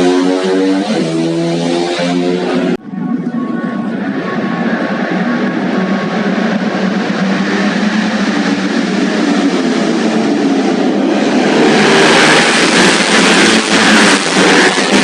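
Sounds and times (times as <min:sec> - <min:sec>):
racing motorcycles passing: 0:00.0 - 0:02.8, 0:04.0 - 0:15.0.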